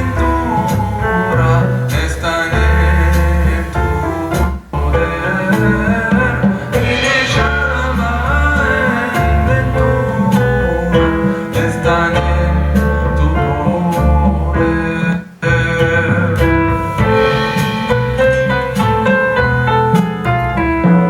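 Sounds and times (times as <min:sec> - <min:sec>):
person singing: 0:00.0 - 0:19.4
heavy bass line: 0:00.0 - 0:20.5
guitar: 0:00.0 - 0:21.0.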